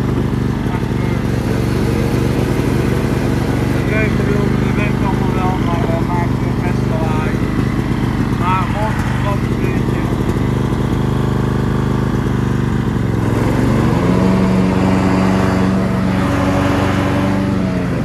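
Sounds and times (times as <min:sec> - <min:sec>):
drive whine: 0:00.0 - 0:18.0
ride-on mower engine running: 0:00.0 - 0:18.0.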